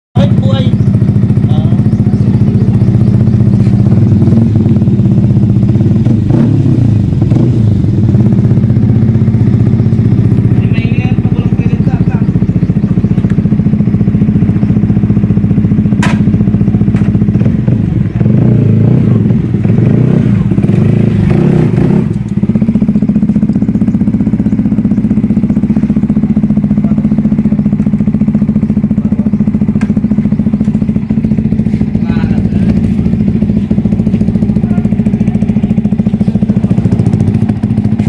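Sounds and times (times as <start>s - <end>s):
motorcycle engine idling and revving: 0.2s - 38.0s.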